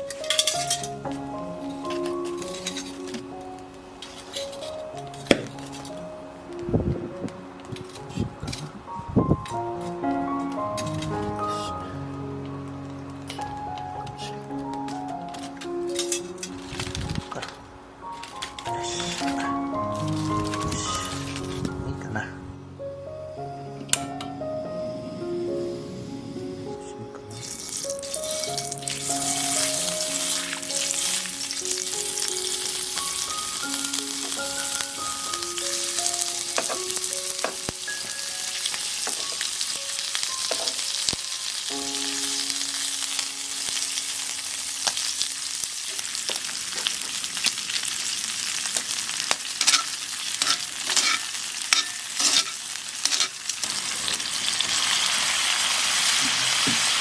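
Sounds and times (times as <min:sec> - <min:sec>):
food sizzling in a hot pan: 0:00.0 - 0:06.0, 0:07.6 - 0:21.8, 0:25.6 - 0:57.0.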